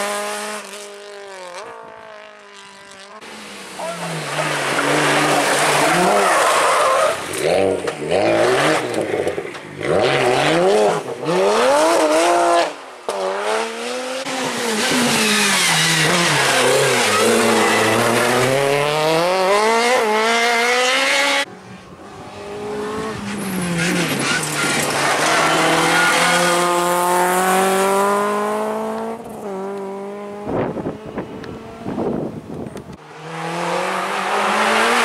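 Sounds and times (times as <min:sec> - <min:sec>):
rally car engine revving: 0:00.0 - 0:32.2, 0:33.0 - 0:35.0.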